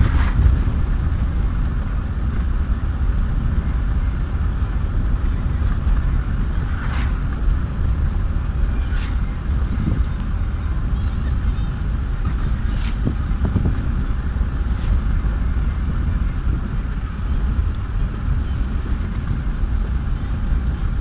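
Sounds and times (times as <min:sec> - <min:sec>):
tyres on road: 0:00.0 - 0:21.0
vehicle engine rumble: 0:00.0 - 0:21.0.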